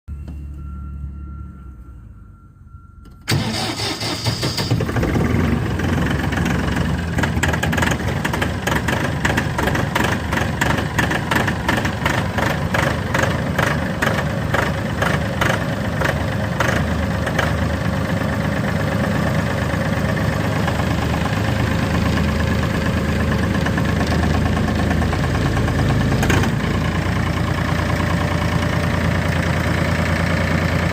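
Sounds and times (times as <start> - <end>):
tractor diesel engine idling: 0.1 - 30.9.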